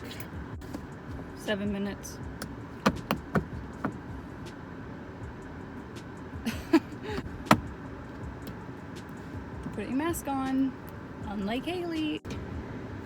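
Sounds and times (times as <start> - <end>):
low hum inside a car: 0.0 - 13.0.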